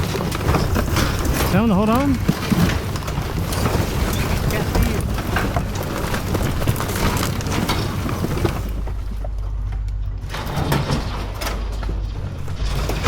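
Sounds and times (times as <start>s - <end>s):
demolition debris scraping and crunching: 0.0s - 13.0s
heavy machine engine running: 0.0s - 13.0s.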